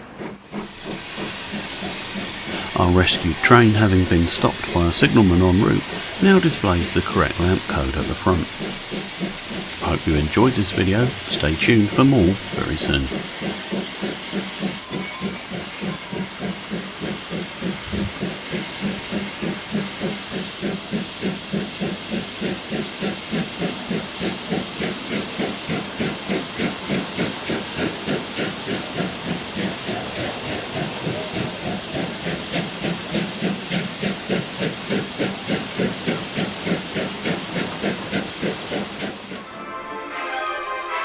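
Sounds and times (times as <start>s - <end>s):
steam locomotive exhaust beats: 0.0s - 39.5s
steam hiss: 0.0s - 39.7s.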